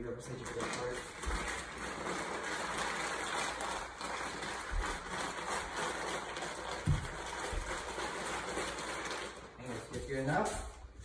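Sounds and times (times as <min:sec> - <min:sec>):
plastic tarp rustling: 0:00.0 - 0:11.0.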